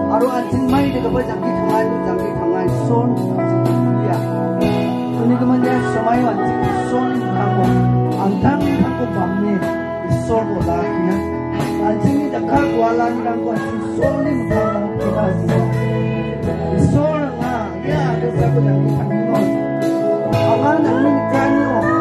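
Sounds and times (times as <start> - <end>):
people singing through microphones: 3.7 - 22.0.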